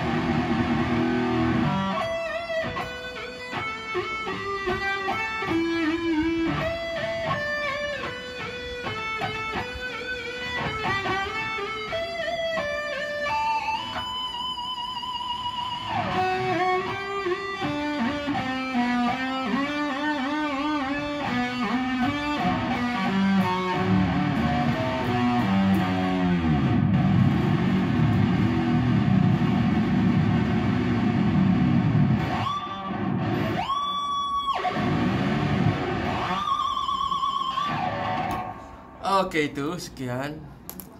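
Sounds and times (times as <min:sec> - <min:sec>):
electric guitar lead line: 0:00.0 - 0:39.0.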